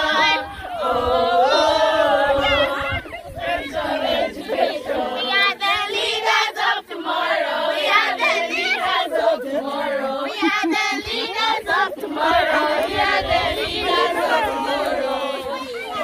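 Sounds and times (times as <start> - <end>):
girls singing and chanting: 0.0 - 16.0.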